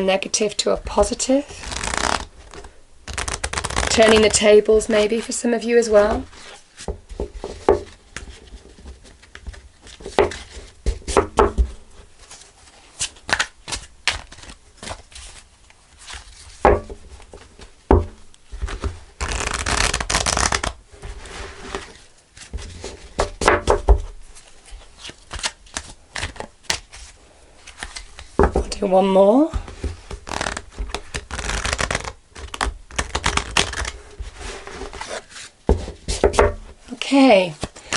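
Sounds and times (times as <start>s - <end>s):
cards being shuffled: 0.8s - 17.7s, 18.5s - 28.6s, 29.5s - 36.4s.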